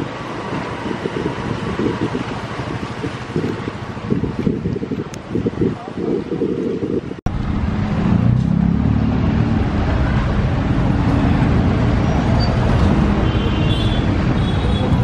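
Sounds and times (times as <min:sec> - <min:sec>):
road vehicle engines rumbling: 0:00.0 - 0:15.0.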